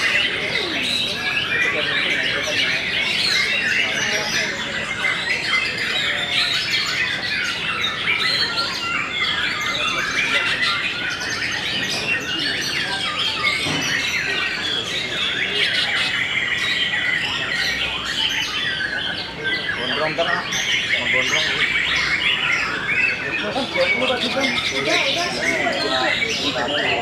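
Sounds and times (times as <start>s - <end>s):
many birds singing: 0.0s - 27.0s.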